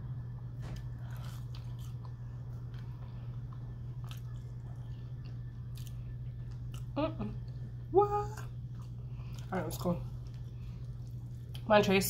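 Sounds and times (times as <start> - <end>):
steady low hum: 0.0 - 12.0
person chewing crisp fries: 0.6 - 7.7, 8.4 - 11.6.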